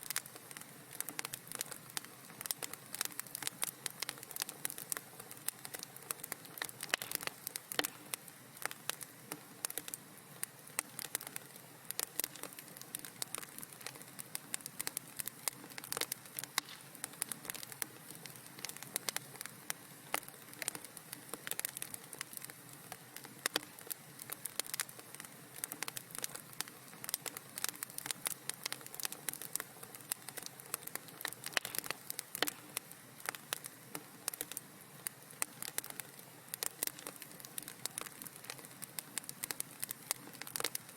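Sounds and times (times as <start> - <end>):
fire crackling: 0.0 - 40.9
soft steady hiss: 0.0 - 40.9.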